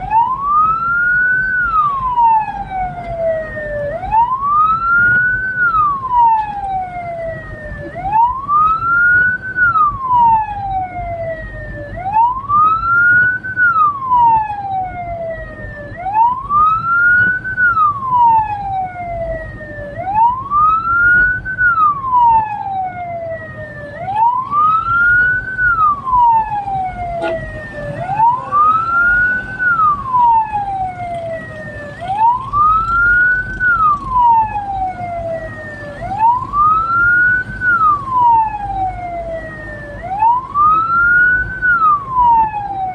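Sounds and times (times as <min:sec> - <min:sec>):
siren wailing: 0:00.0 - 0:42.9
vehicle road rumble: 0:00.0 - 0:42.9.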